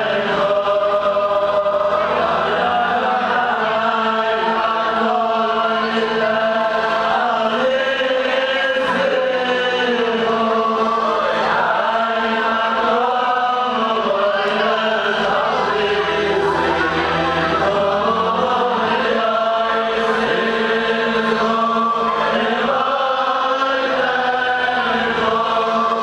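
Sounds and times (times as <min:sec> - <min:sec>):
crowd of men singing in unison: 0:00.0 - 0:26.0.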